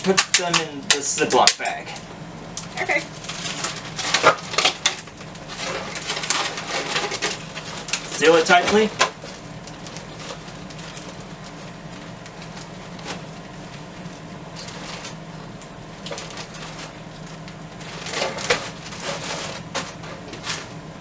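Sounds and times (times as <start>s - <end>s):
low hum: 0.0s - 21.0s
plastic bag crinkling: 2.6s - 20.8s.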